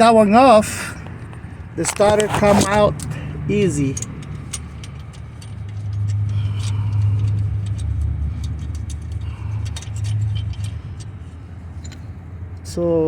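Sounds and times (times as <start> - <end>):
low engine hum: 0.0 - 13.0
metallic clicks of hand tools: 1.8 - 12.7.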